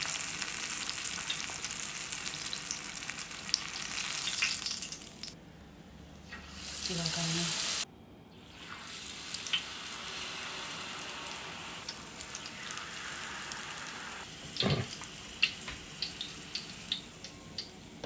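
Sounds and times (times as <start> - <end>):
tempura sizzling in hot oil: 0.0 - 5.4, 6.2 - 7.9, 8.5 - 18.0.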